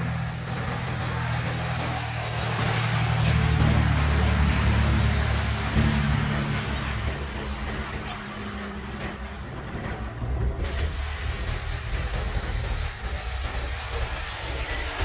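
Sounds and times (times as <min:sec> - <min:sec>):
dump truck approaching: 0:00.0 - 0:15.0
dump truck engine running: 0:00.0 - 0:15.0.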